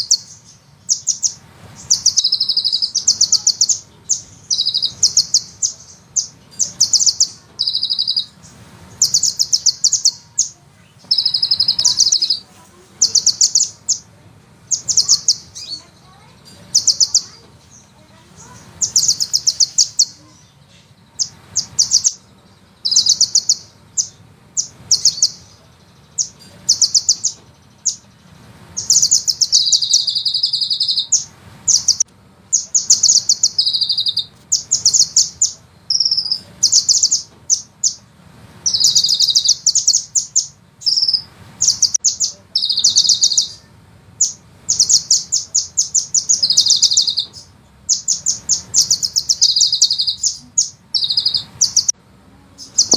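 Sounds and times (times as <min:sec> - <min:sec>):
bird trilling: 0:00.0 - 0:52.0, 0:52.6 - 0:52.9.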